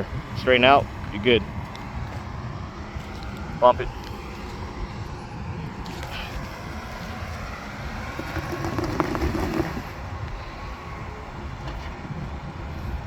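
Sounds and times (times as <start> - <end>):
car engine rumbling and revving: 0.0 - 13.0.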